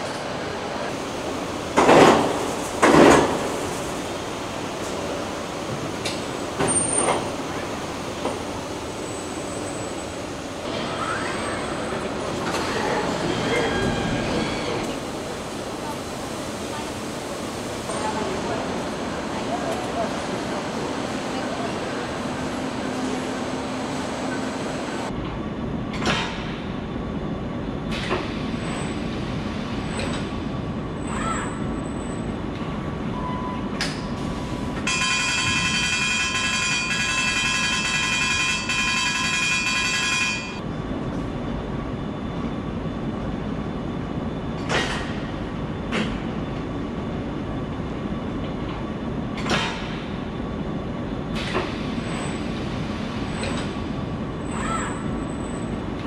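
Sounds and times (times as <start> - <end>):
machinery and conveyor noise: 0.0 - 56.0.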